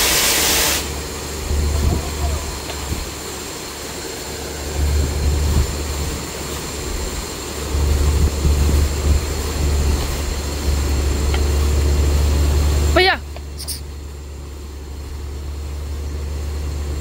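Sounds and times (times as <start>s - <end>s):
compressor hiss and whine: 0.0s - 17.0s
drilling rig low drone: 0.0s - 17.0s.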